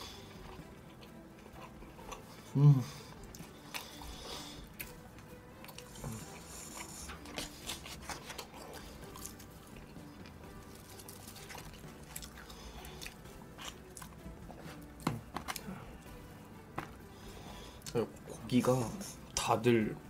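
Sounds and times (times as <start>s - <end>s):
man chewing food: 0.0s - 18.3s
background music: 0.0s - 20.0s.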